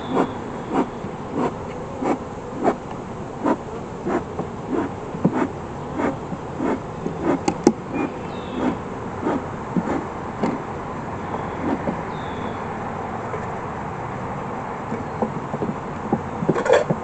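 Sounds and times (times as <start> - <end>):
honeybees buzzing: 0.0 - 16.4.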